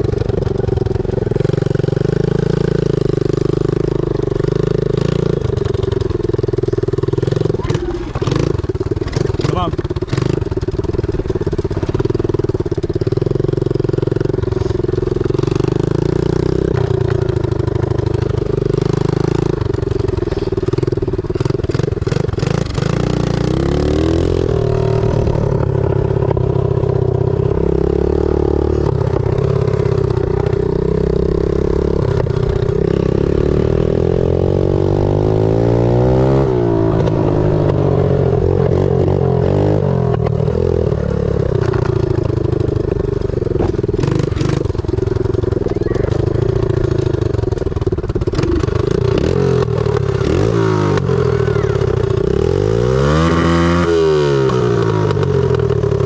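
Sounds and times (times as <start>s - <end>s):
pit bike engine revving: 0.0s - 56.0s.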